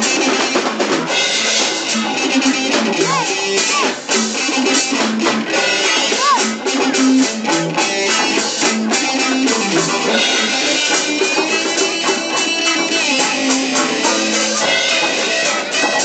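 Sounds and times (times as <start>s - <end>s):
reggae music with guitar and drums: 0.0s - 16.0s.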